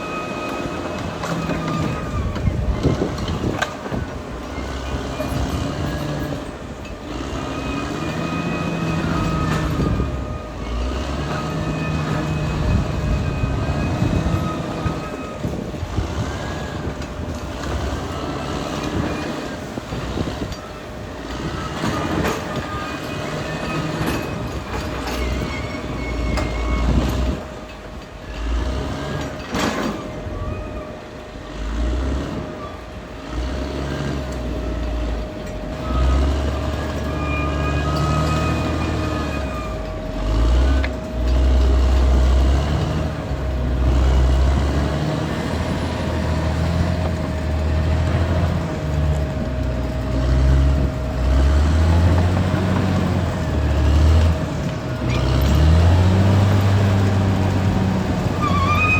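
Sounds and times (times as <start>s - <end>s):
bulldozer diesel engine running: 0.0s - 58.9s
steel tracks clanking: 0.0s - 58.9s.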